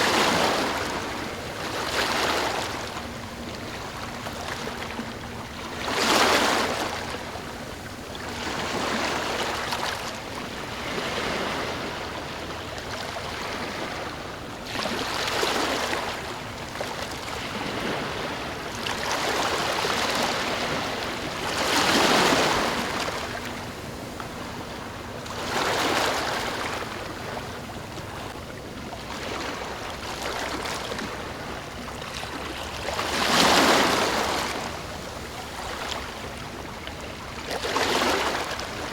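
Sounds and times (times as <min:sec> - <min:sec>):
ocean waves surging: 0:00.0 - 0:04.0, 0:08.3 - 0:28.2, 0:29.1 - 0:36.4.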